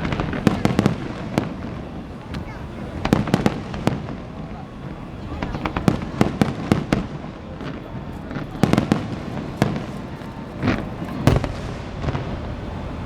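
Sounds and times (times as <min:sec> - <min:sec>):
fireworks bursting with sharp bangs: 0:00.0 - 0:13.0
rumble of fireworks display: 0:00.0 - 0:13.0.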